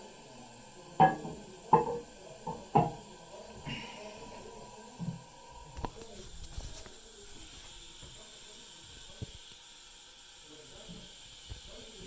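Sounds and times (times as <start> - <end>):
toilet tank refilling hiss: 0.0 - 12.0.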